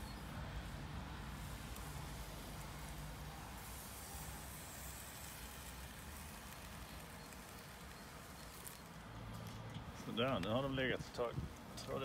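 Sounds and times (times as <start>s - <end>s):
grill sizzling hiss: 0.0s - 12.0s.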